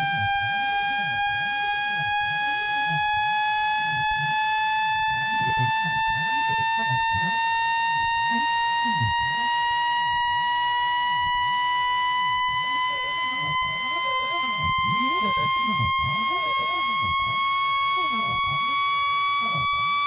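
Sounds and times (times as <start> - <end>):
electronic tone gliding upward: 0.2 - 20.0.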